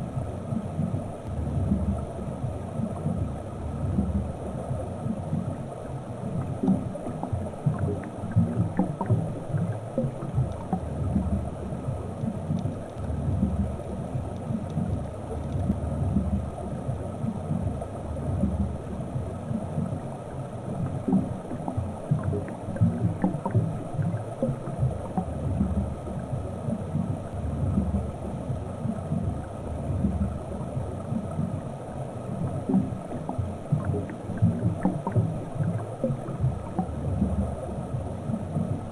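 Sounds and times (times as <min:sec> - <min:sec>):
faint ticks: 0:00.0 - 0:38.9
underwater water rumble: 0:00.0 - 0:38.9.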